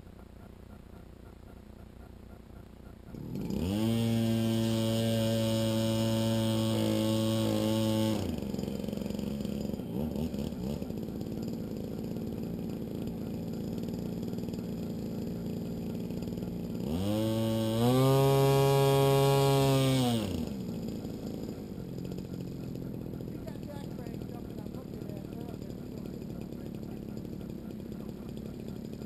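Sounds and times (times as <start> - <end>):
model plane engine running: 0.0 - 29.0.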